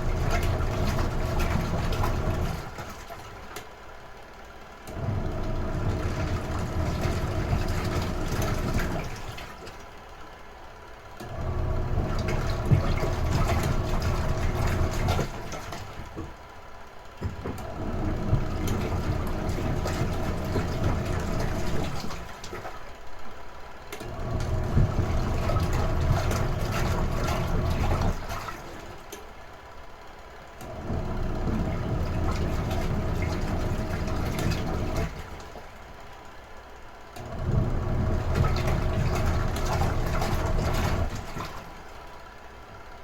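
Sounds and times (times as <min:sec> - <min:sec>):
washing machine motor and churning water: 0:00.0 - 0:43.0.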